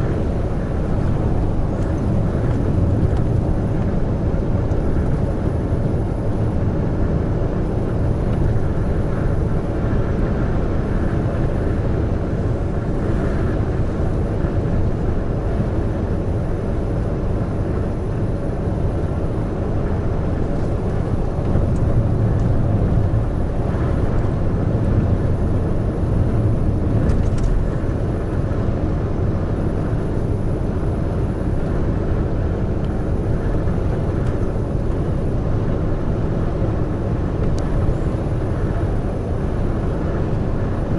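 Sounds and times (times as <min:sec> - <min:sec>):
truck engine drone: 0:00.0 - 0:40.9
tyre and road noise: 0:00.0 - 0:40.9.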